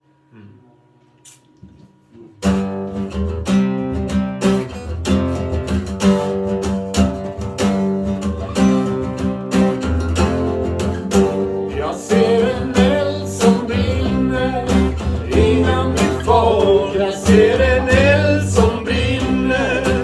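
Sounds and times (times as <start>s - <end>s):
strummed acoustic guitar: 2.2s - 20.0s.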